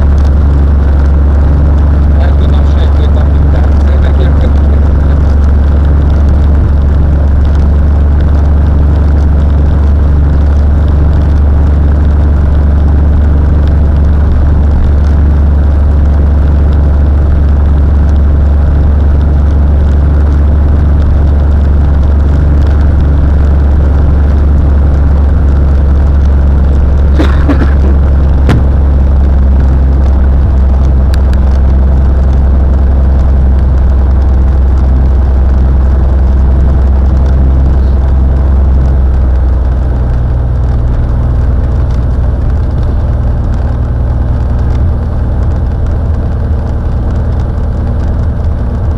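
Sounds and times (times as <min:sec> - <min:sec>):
propeller plane engine droning: 0:00.0 - 0:48.9.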